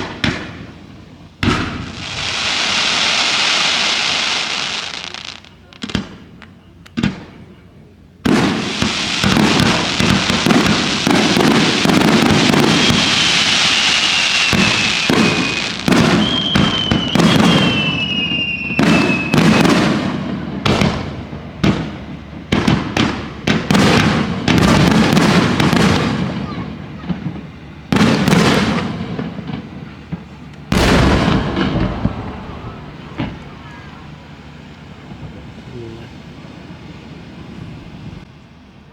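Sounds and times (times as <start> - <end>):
falling firework whistles: 0.0 - 7.4, 8.3 - 35.7
fireworks bursting and crackling: 0.0 - 38.3.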